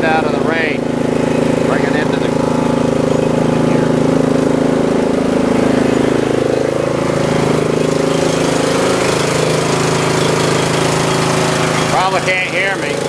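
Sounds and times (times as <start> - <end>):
riding lawn mower engine: 0.0 - 13.0.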